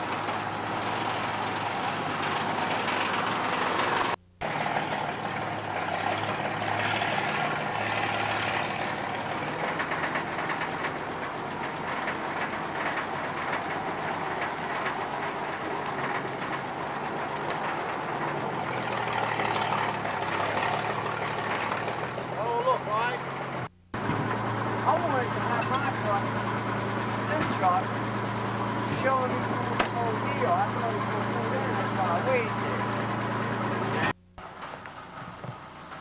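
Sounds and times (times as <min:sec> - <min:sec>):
heavy truck engine running: 0:00.0 - 0:36.0.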